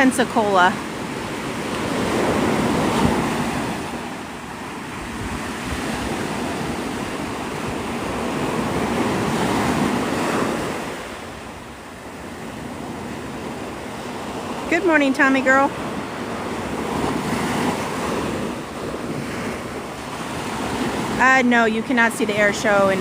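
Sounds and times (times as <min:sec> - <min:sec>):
small waves breaking on sand: 0:00.0 - 0:23.0
wind on microphone: 0:00.0 - 0:23.0.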